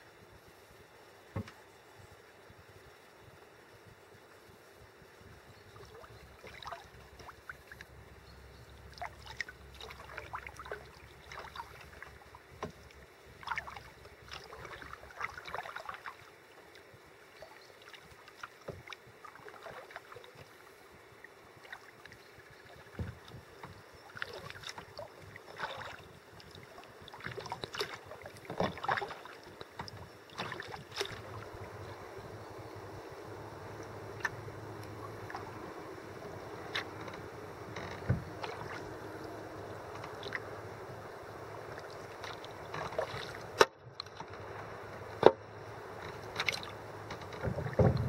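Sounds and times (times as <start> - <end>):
paddle splashes in water: 5.8 - 8.0, 8.8 - 20.6, 21.6 - 32.3, 33.8 - 48.0.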